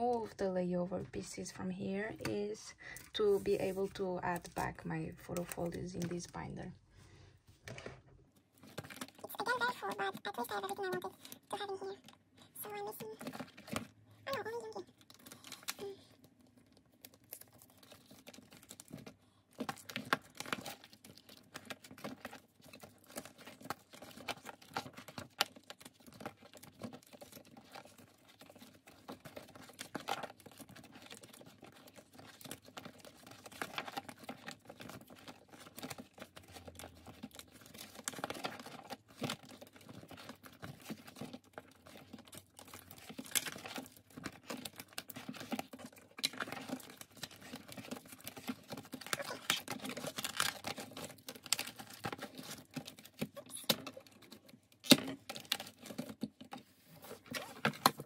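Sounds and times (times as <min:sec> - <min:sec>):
plastic pages crinkling: 0:00.0 - 0:06.8, 0:07.5 - 0:58.0.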